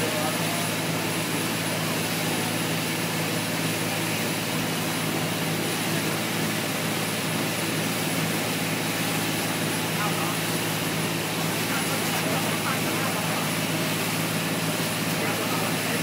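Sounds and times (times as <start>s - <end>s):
boat engine droning: 0.0s - 16.0s
rushing water: 0.0s - 16.0s
wind: 0.0s - 16.0s.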